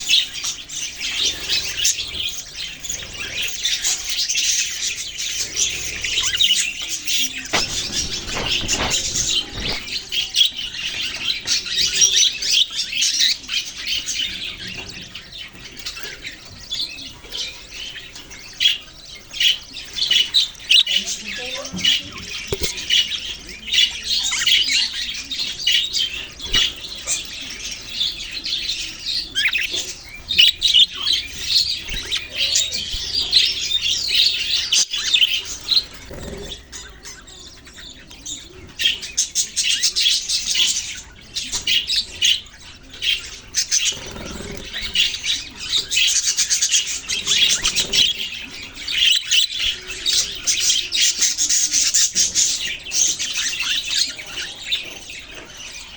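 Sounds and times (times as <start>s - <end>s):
budgerigars chirping and chattering: 0.0s - 55.9s.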